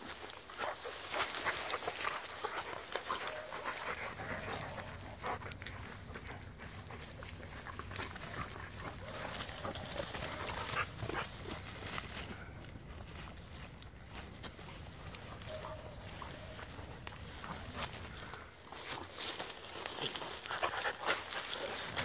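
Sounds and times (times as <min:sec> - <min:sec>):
rustling and scuffling in grass: 0:00.0 - 0:22.0.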